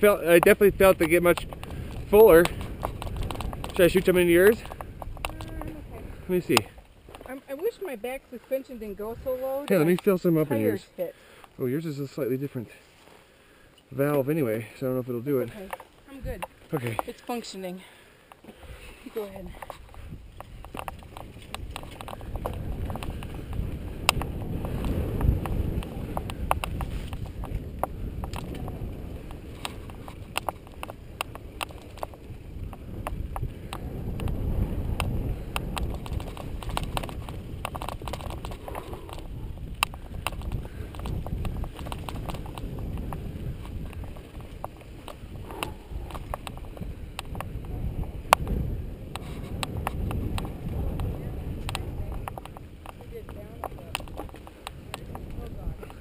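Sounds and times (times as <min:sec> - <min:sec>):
bike rattling over stones: 0:00.0 - 0:10.8, 0:19.1 - 0:56.0
bike tyres rumbling on dirt: 0:00.0 - 0:10.8, 0:18.7 - 0:56.0.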